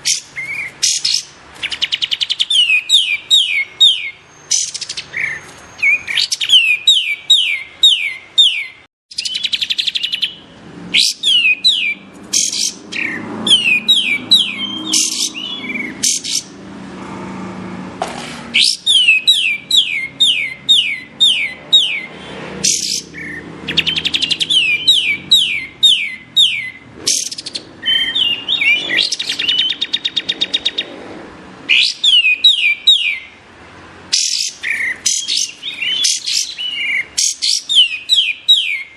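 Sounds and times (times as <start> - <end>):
songbird whistles and trills: 0.0 - 16.5, 18.6 - 30.9, 31.7 - 33.4, 34.1 - 38.9.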